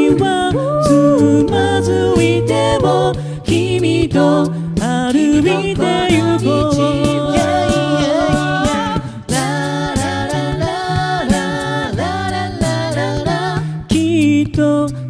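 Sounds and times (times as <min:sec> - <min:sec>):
a cappella group singing: 0:00.0 - 0:15.0
low bass vocal line: 0:00.0 - 0:15.0
vocal percussion beat: 0:00.0 - 0:15.0.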